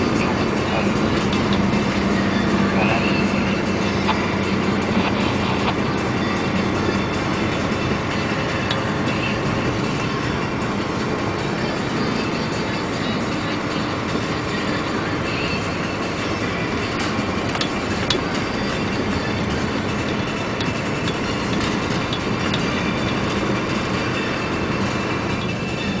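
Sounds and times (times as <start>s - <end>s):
heavy vehicle rumbling: 0.0s - 26.0s
sharp clicks and rattles: 0.0s - 26.0s.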